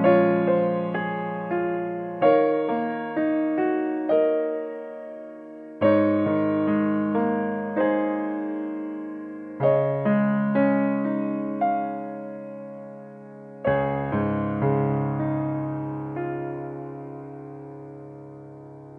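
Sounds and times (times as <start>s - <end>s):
slow gentle piano: 0.0s - 18.9s.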